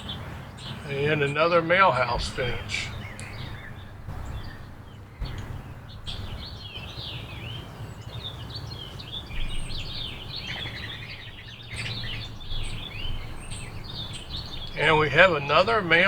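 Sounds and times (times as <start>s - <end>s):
songbirds chirping: 0.0s - 16.0s
low steady rumble: 0.8s - 8.0s, 9.3s - 16.0s.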